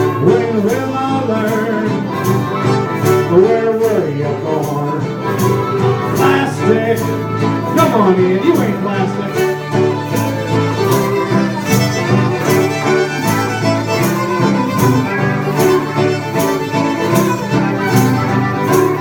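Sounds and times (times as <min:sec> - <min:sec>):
bluegrass fiddle and guitar: 0:00.0 - 0:19.0.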